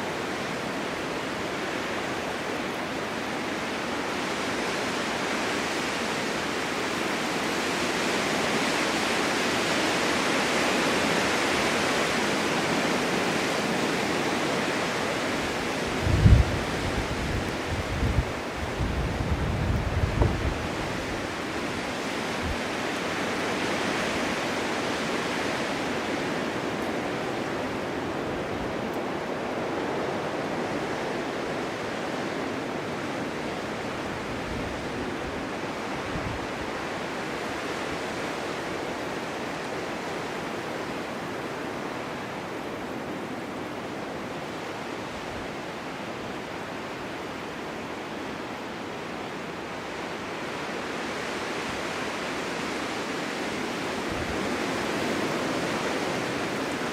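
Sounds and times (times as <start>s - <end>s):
wind blowing: 0.0s - 56.9s.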